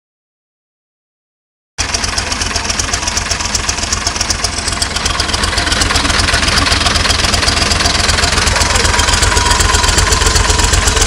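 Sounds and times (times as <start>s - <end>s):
tractor diesel engine idling: 1.8s - 11.0s.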